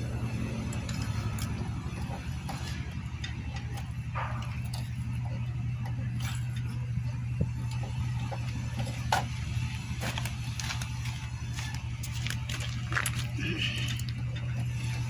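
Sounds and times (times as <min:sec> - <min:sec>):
small motorcycle engine idling: 0:00.0 - 0:15.0.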